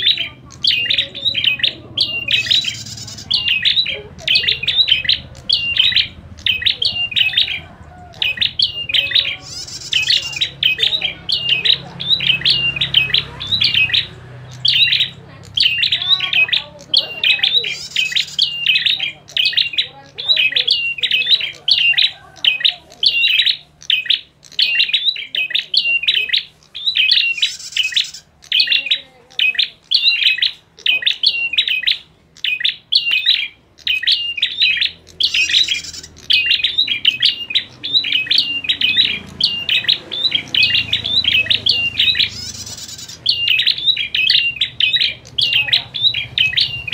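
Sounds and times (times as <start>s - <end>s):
birds chirping sharply: 0.0s - 46.9s.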